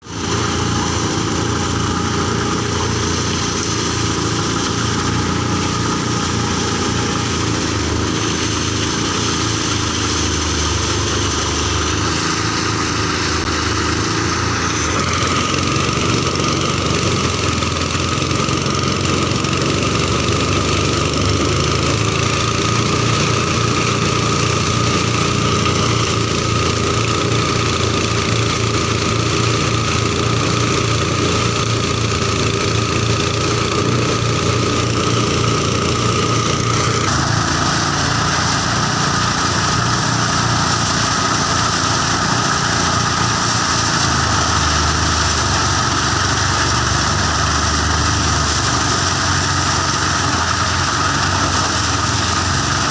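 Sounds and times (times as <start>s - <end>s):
small diesel engine running: 0.0s - 52.9s
steady machine whine: 0.0s - 52.9s.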